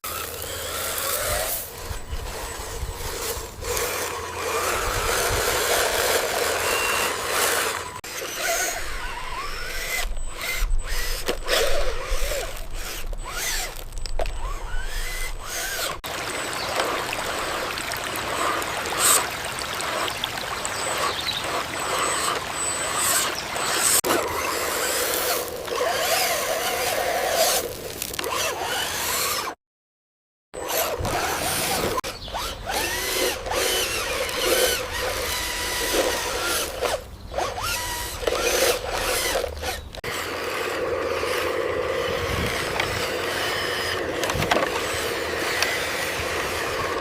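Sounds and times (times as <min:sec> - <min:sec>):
small electric motors whirring: 0:00.0 - 0:29.6, 0:30.6 - 0:47.0.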